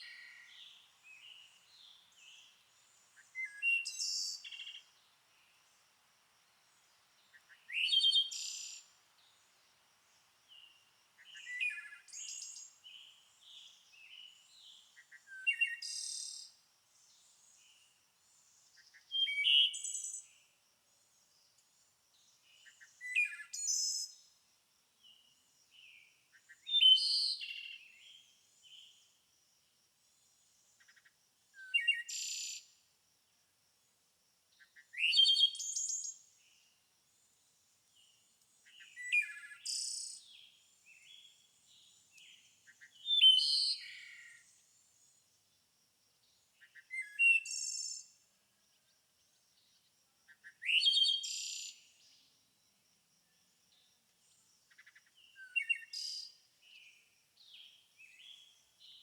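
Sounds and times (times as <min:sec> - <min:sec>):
songbird singing: 0:00.0 - 0:05.9, 0:06.5 - 0:24.4, 0:25.0 - 0:29.2, 0:30.1 - 0:32.8, 0:34.5 - 0:45.3, 0:46.2 - 0:52.5, 0:53.2 - 0:59.0.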